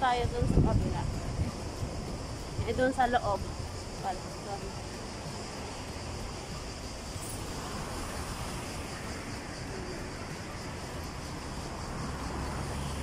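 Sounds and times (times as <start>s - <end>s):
faint high hiss: 1.0s - 13.0s.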